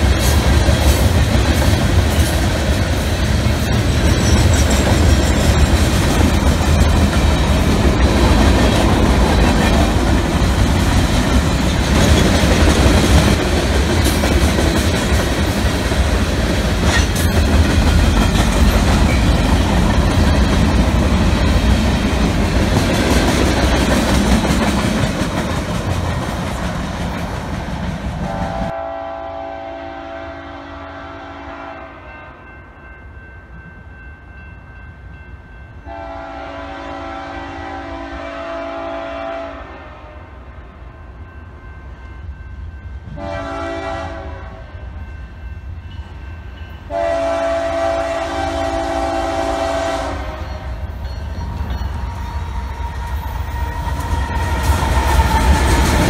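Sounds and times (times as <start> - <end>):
steel wheels rumbling on rails: 0.0 - 56.0.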